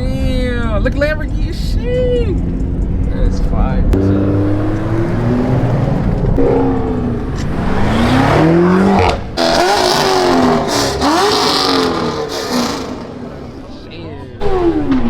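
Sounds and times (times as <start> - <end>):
car engine revving: 2.3 - 15.0.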